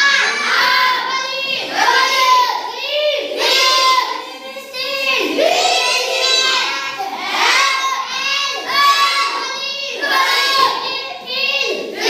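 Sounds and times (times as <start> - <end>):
boy chanting words: 0.0 - 12.0.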